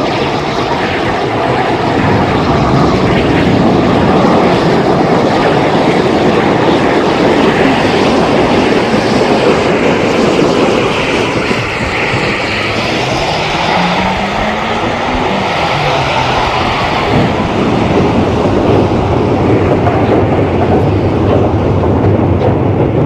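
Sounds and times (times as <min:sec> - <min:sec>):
steam locomotive running: 0:00.0 - 0:23.0.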